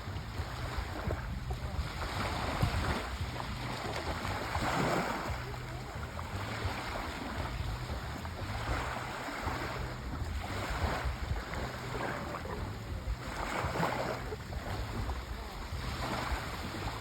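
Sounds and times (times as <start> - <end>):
low steady rumble: 0.0 - 17.0
sea waves washing ashore: 0.0 - 17.0.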